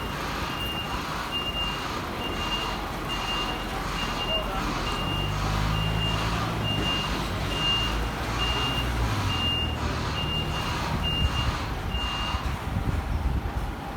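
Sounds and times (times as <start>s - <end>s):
reversing alarm beeping: 0.0s - 12.6s
low truck engine drone: 0.0s - 13.6s.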